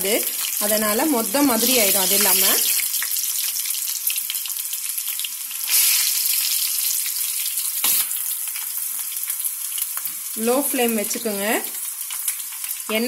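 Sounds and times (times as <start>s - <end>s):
corn deep-frying in oil: 0.0s - 13.0s.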